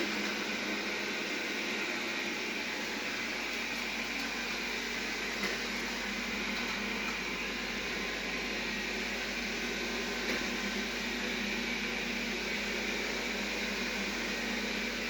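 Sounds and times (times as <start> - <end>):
robot vacuum cleaner whirring: 0.0 - 15.0.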